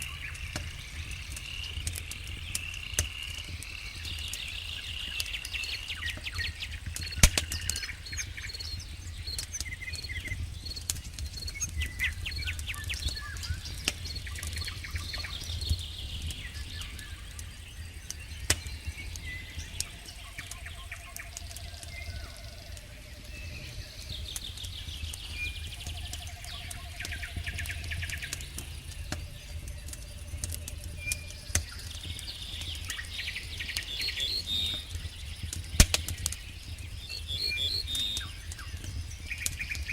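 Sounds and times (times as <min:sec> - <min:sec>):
campfire crackling: 0:00.0 - 0:39.9
crickets chirping: 0:00.0 - 0:39.9
frogs croaking: 0:00.0 - 0:39.9.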